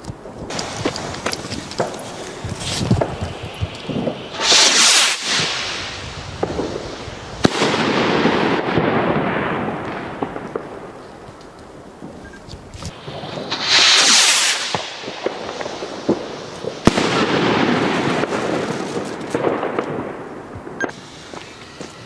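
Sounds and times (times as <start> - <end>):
rocket whooshing: 0.4 - 10.7, 12.7 - 20.1.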